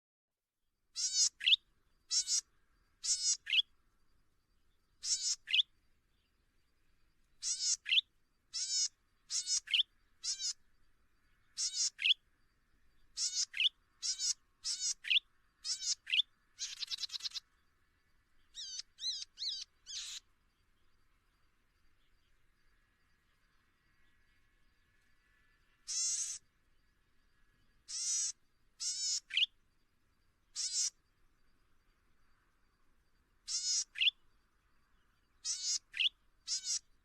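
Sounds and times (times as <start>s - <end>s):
songbird chirping: 0.9s - 37.0s.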